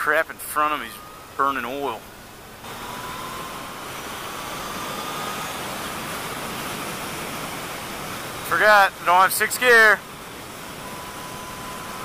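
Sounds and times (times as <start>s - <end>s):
wind and road noise: 0.0s - 12.0s
motorcycle engine whine: 0.7s - 12.0s.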